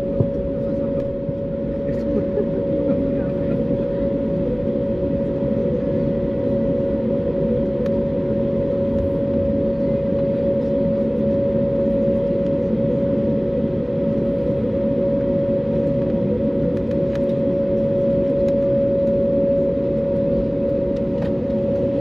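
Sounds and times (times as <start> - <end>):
airliner rolling rumble: 0.0 - 22.0
steady humming tone: 0.0 - 22.0.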